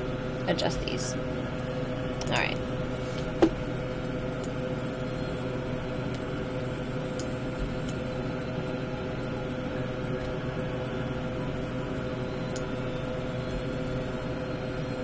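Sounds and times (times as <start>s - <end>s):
electrical hum and fan noise: 0.0s - 15.0s.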